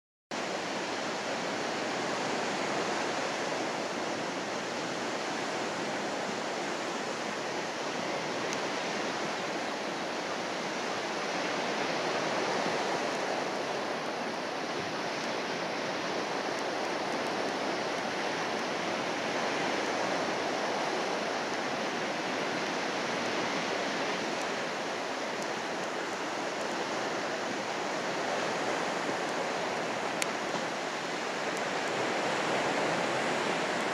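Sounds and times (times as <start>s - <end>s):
sea waves washing in: 0.4s - 33.9s.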